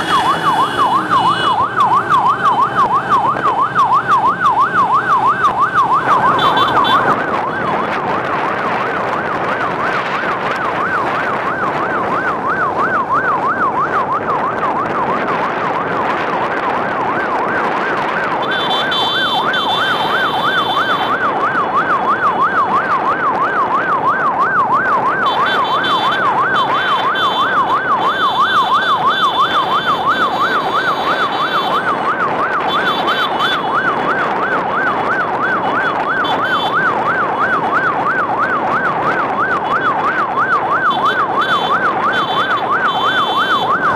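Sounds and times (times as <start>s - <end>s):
electronic siren yelping: 0.0s - 16.0s, 16.7s - 43.9s.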